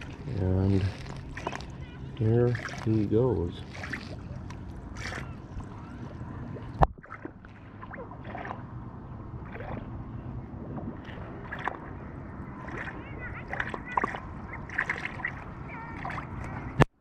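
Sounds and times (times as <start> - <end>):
small water splashes: 0.0 - 16.9
water lapping against boat: 0.0 - 16.9
low steady rumble: 0.0 - 17.0.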